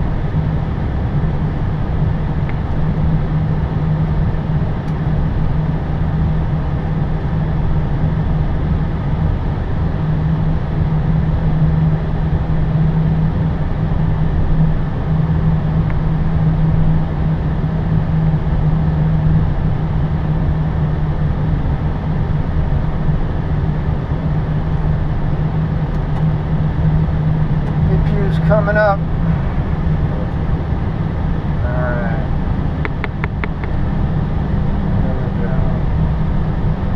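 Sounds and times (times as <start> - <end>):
airliner rolling on runway: 0.0 - 36.9.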